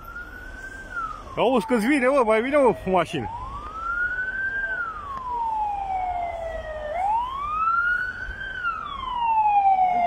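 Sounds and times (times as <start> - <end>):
emergency vehicle siren wailing: 0.0 - 10.0.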